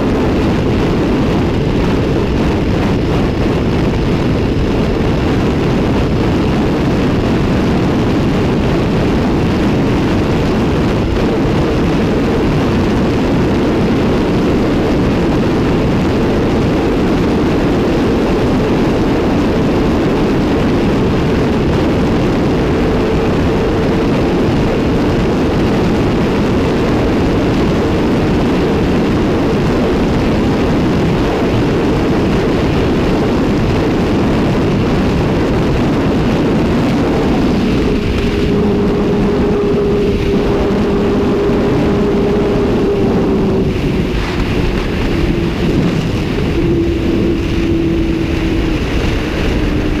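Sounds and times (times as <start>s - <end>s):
motorcycle engine at high revs: 0.0s - 50.0s
wind rush: 0.0s - 50.0s.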